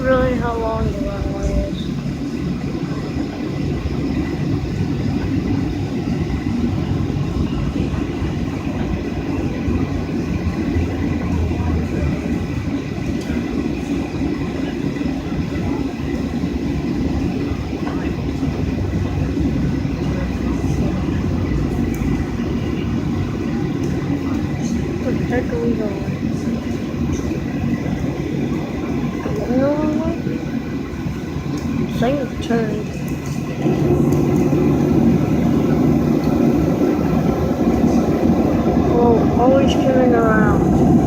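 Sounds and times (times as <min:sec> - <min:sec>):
jet engines humming: 0:00.0 - 0:41.0.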